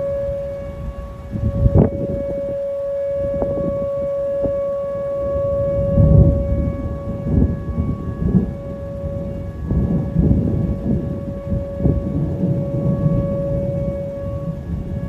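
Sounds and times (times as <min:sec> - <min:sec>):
warning siren held tone: 0:00.0 - 0:15.0
wind buffeting microphone: 0:00.0 - 0:15.0.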